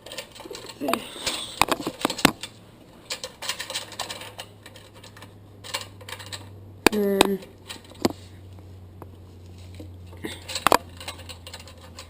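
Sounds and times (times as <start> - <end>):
metal cable fittings clicking: 0.0 - 8.2, 9.8 - 12.0.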